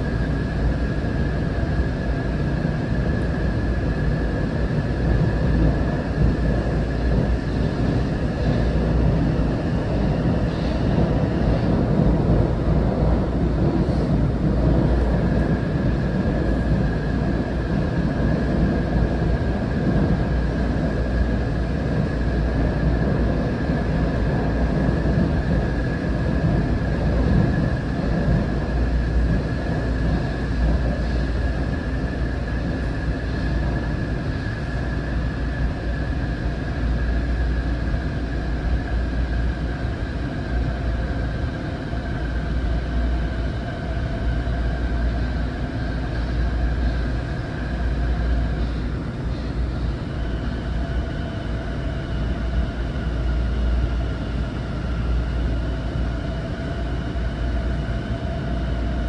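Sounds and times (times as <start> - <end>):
constant high whine: 0.0 - 59.0
train wheels rumbling on rails: 0.0 - 59.0.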